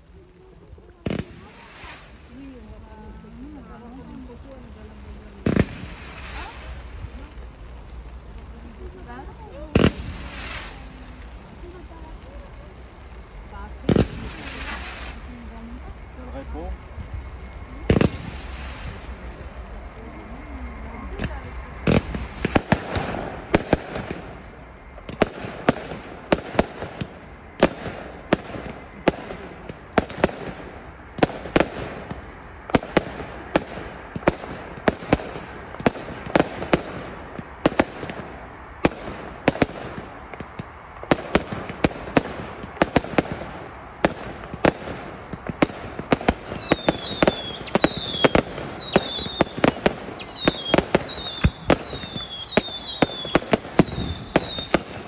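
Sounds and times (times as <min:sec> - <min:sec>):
fireworks bangs: 0:00.0 - 0:55.0
fireworks crackling: 0:00.0 - 0:55.0
falling firework whistles: 0:01.0 - 0:04.2, 0:05.4 - 0:07.4, 0:08.7 - 0:55.0.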